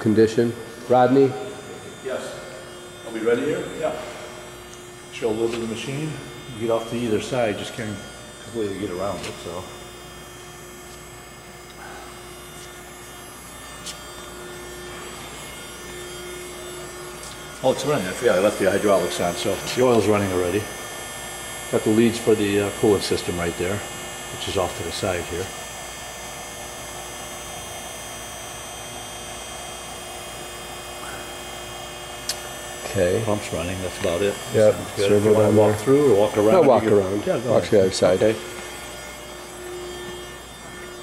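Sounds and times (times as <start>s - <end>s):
hydraulic unit humming: 0.0s - 41.0s.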